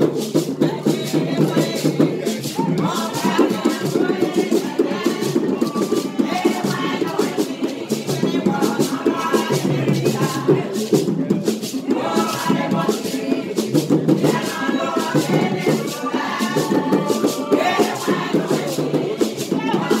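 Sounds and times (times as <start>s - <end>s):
shaker rattling: 0.0s - 20.0s
women's choir singing: 0.4s - 20.0s.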